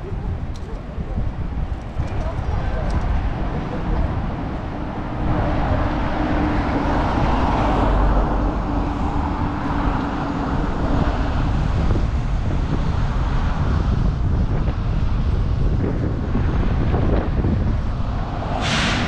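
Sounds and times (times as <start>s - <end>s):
city road traffic: 0.0s - 19.0s
low engine hum: 0.0s - 19.0s
wind buffeting microphone: 0.0s - 19.0s.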